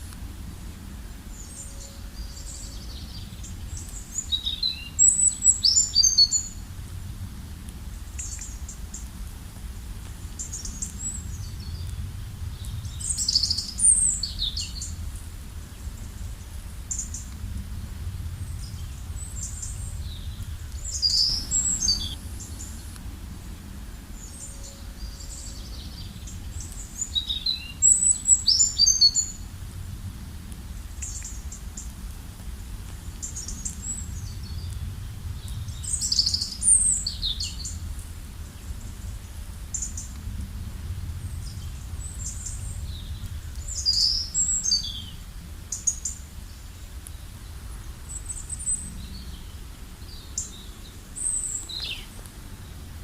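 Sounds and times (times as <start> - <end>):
songbird chirping: 0.0 - 6.7, 10.1 - 29.5, 33.0 - 52.9
steady low rumble: 0.0 - 53.0.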